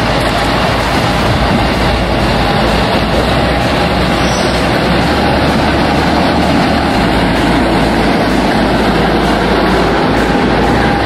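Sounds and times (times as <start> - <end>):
diesel locomotive passing: 0.0 - 11.0.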